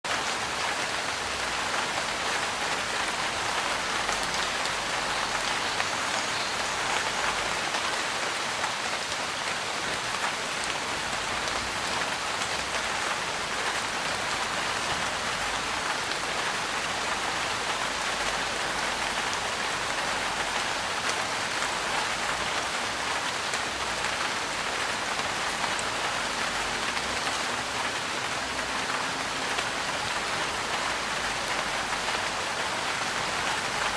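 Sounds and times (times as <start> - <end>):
rain on a trailer roof: 0.0 - 33.9.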